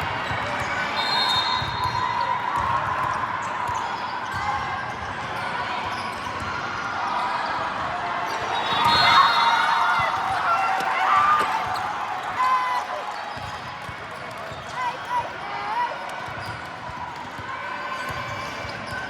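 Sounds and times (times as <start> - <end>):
crowd chatter echoing in a hall: 0.0 - 19.0.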